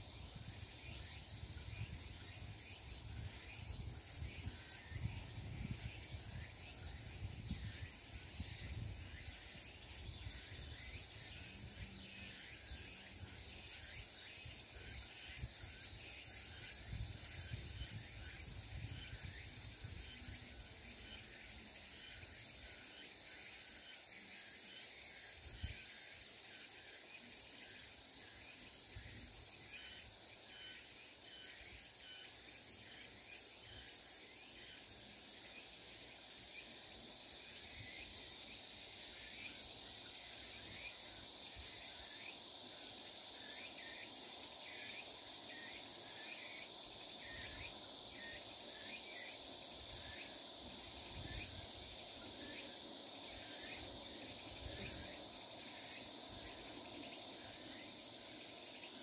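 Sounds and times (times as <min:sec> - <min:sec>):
insect chirps: 0:00.0 - 0:59.0
insects buzzing high-pitched: 0:00.0 - 0:59.0.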